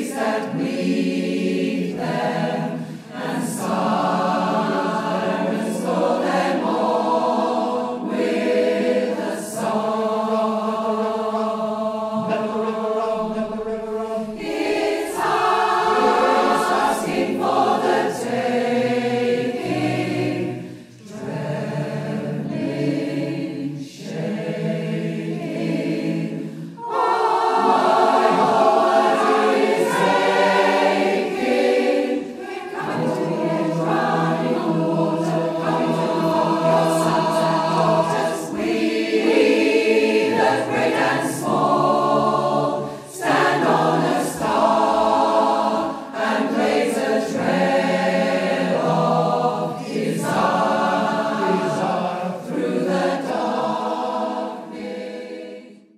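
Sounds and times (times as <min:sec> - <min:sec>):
choir singing: 0:00.0 - 0:55.9.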